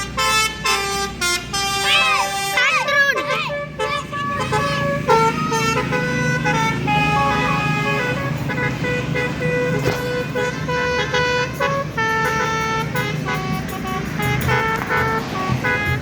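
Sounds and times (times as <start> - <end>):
bus engine rumbling: 0.0 - 16.0
bus melody horn: 0.0 - 16.0.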